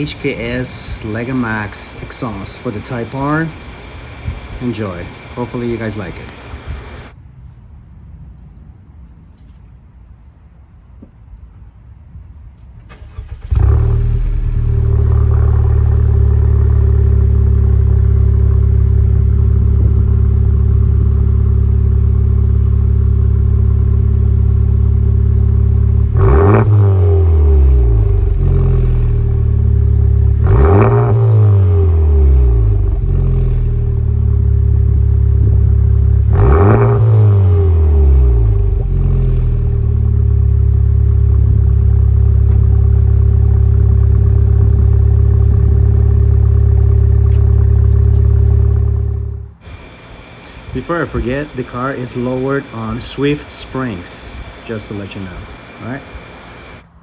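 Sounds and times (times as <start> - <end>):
car engine idling: 0.0 - 7.1, 13.1 - 57.0
car engine revving: 0.0 - 7.1, 13.0 - 57.0
car engine starting: 0.0 - 7.2, 12.8 - 57.0.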